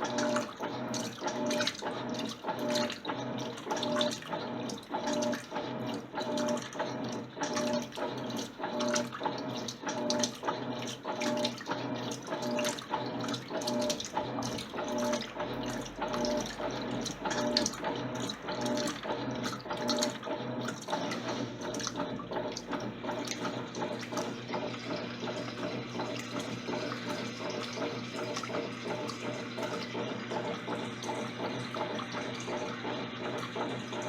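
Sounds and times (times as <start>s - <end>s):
washing machine motor hum: 0.0s - 34.0s
water sloshing in washing machine: 0.0s - 34.0s.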